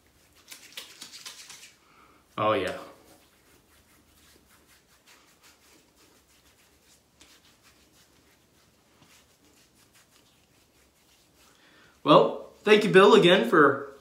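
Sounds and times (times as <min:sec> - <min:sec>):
hands rubbing and patting skin: 0:00.0 - 0:01.8, 0:02.4 - 0:12.9.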